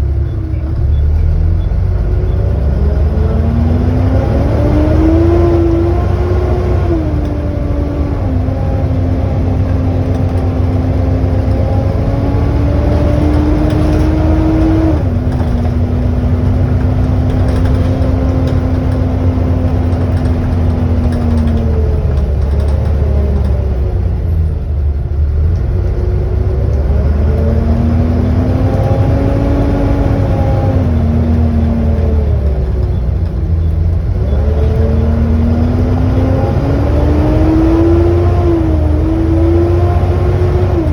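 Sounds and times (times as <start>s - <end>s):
bus engine rumble with whine: 0.0s - 40.9s.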